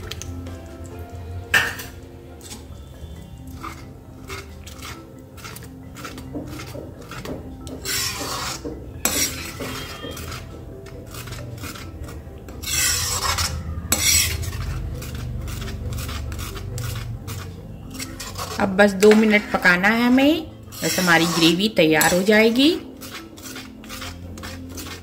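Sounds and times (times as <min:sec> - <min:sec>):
spoon scraping gravy in a pan: 0:00.0 - 0:25.0.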